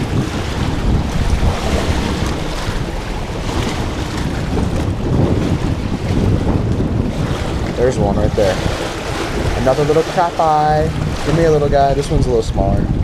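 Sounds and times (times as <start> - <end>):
river current rushing: 0.0 - 12.4
wind buffeting microphone: 0.0 - 13.0.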